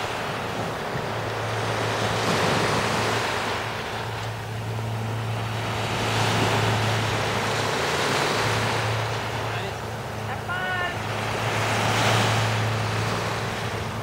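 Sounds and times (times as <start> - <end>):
small waves washing on sand: 0.0 - 14.0.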